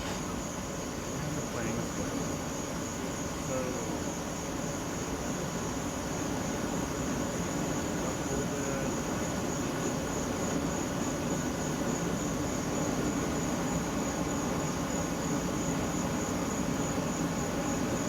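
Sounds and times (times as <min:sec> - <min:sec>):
gas burner rumbling and hissing: 0:00.0 - 0:18.0.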